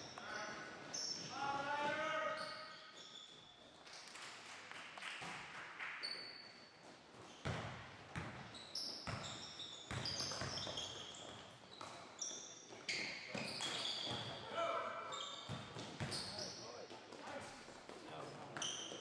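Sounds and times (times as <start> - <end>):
sneakers squeaking on floor: 0.0 - 3.9, 6.0 - 19.0.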